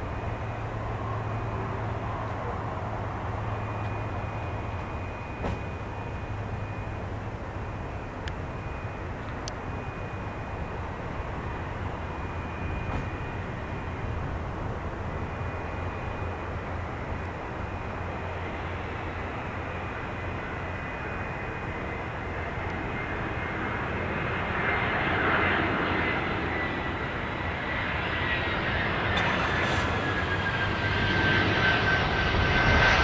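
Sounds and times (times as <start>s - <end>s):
distant jet engines rumbling: 0.0s - 33.0s.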